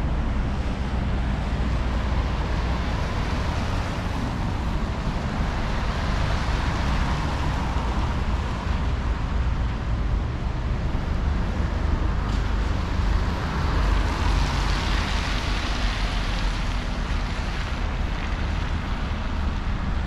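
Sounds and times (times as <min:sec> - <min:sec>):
low traffic rumble: 0:00.0 - 0:20.0
vehicle tyre noise passing: 0:00.0 - 0:20.0.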